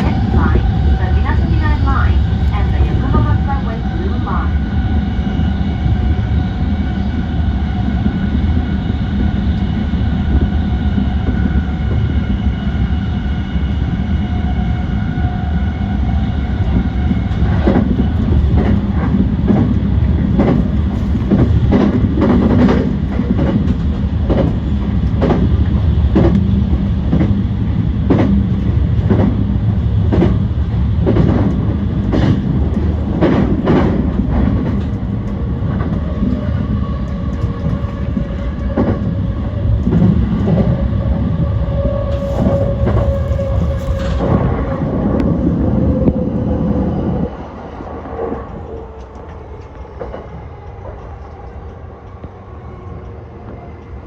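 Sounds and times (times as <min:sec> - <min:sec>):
electric train rumble and whine: 0:00.0 - 0:54.0.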